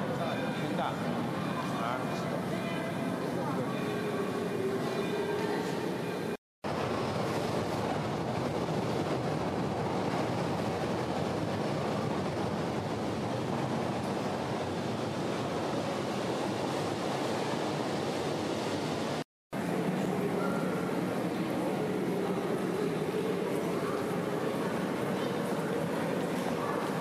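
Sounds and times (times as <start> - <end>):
subway station ambience: 0.0 - 27.0.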